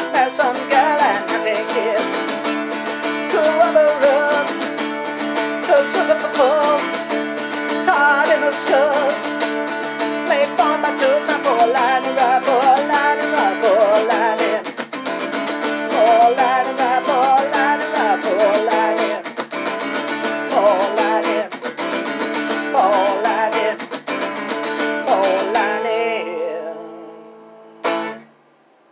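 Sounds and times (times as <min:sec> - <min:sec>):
man singing: 0:00.0 - 0:02.5, 0:03.1 - 0:04.8, 0:05.4 - 0:09.4, 0:10.0 - 0:14.8, 0:15.8 - 0:19.4, 0:20.2 - 0:27.3
acoustic guitar strumming: 0:00.0 - 0:28.4.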